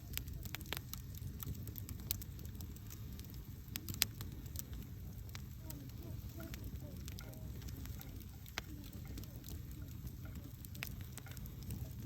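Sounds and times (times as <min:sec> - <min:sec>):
campfire flames rumbling: 0:00.0 - 0:12.0
wood crackling and popping: 0:00.0 - 0:12.0.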